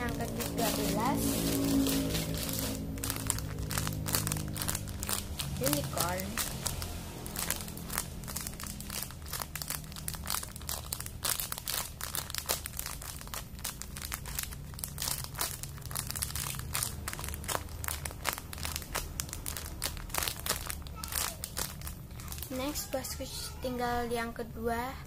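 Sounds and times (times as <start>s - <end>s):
crinkly wrapping crackling: 0.0s - 23.7s.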